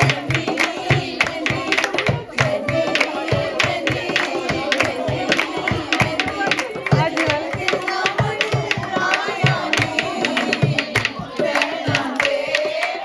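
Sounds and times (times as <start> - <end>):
dholak drum beating: 0.0 - 12.9
hands clapping: 0.0 - 13.0
voices singing folk song: 0.0 - 13.0.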